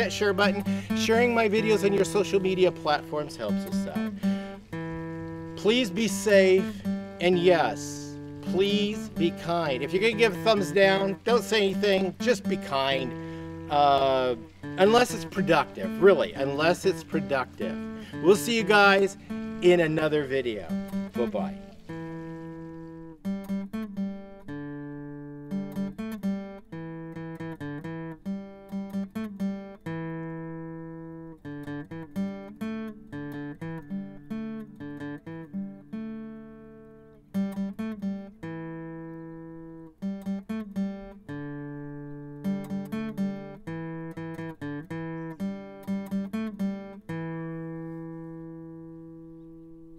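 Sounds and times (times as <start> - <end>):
acoustic guitar playing: 0.0 - 49.9.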